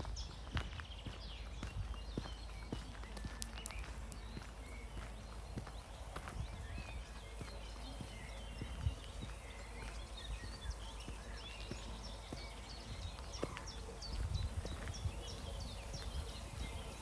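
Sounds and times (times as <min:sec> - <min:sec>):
footsteps walking: 0:00.0 - 0:17.0
small birds chirping: 0:00.0 - 0:17.0.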